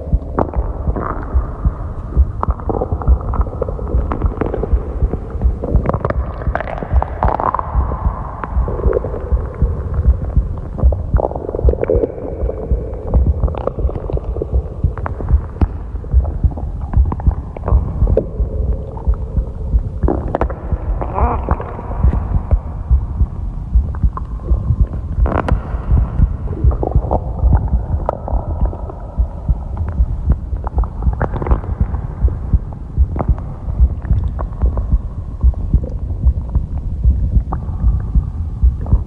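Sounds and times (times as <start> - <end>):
stomach growling and gurgling: 0.0 - 39.0.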